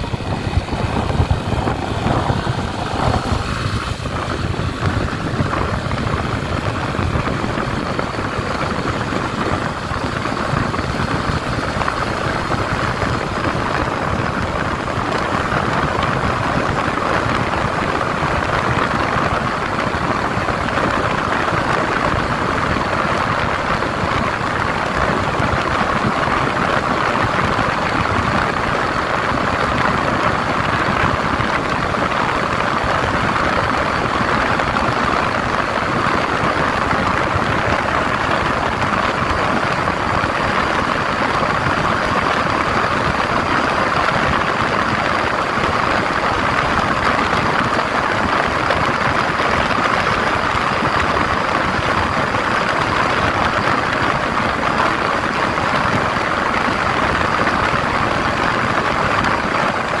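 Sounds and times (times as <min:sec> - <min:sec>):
motorcycle engine drone: 0:00.0 - 1:00.0
wind on microphone: 0:00.0 - 1:00.0.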